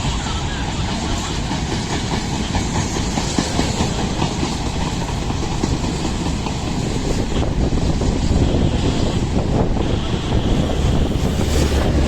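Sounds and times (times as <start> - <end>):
train wheels clattering on rails: 0.0 - 12.0.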